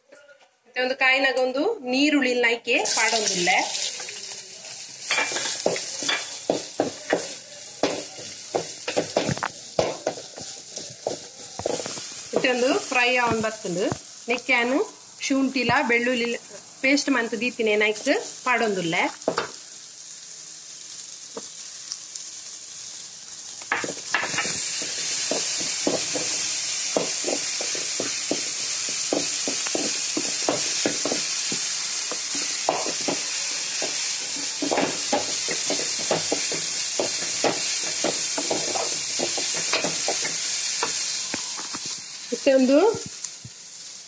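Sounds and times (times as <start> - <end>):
onions sizzling in oil: 1.2 - 44.0.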